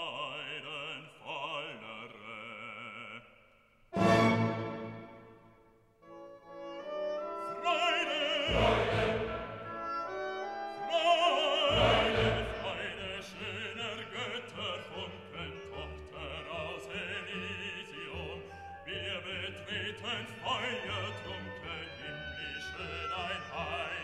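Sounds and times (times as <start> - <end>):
operatic singing with vibrato: 0.0 - 5.5, 6.8 - 24.0
orchestra: 3.9 - 24.0.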